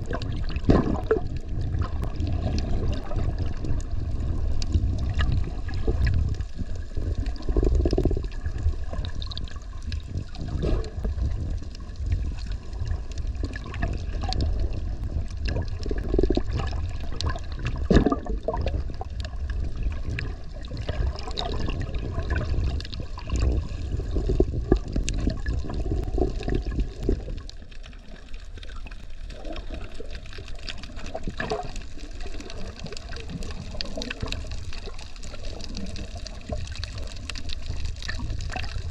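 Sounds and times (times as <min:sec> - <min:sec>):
muffled underwater water sloshing: 0:00.0 - 0:38.9
small clicks and splashes: 0:00.0 - 0:38.9.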